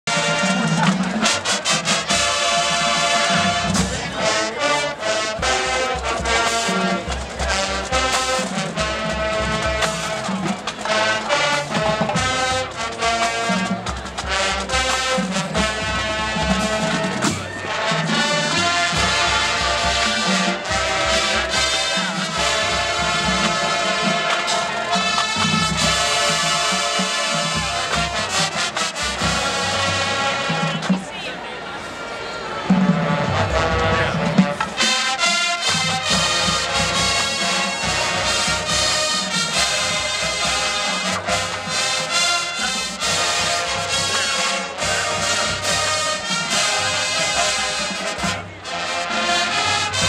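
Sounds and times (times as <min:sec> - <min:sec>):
drums beating: 0:00.0 - 0:31.2, 0:32.5 - 0:50.0
marching band playing: 0:00.0 - 0:50.0.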